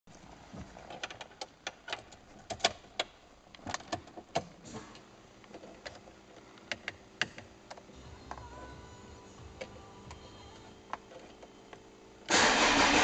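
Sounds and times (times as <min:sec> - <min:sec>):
faint electrical whine: 0:00.1 - 0:13.0.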